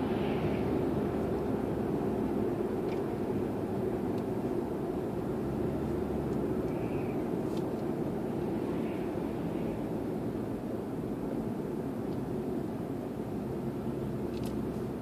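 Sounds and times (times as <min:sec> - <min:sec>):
in-cabin car engine drone: 0:00.0 - 0:15.0
tyre noise on snowy road: 0:00.0 - 0:15.0.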